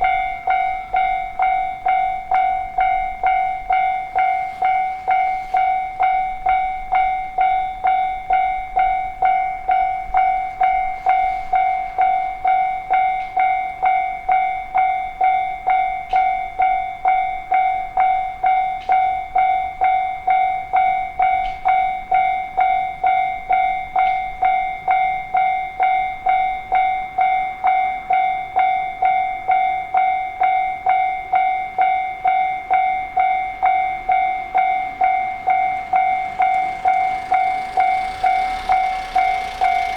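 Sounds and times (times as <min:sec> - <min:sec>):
railroad crossing bell ringing: 0:00.0 - 0:39.9.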